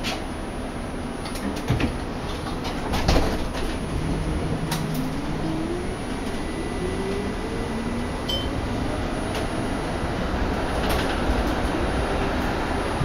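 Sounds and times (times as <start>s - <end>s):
streetcar rumble: 0.0s - 13.0s.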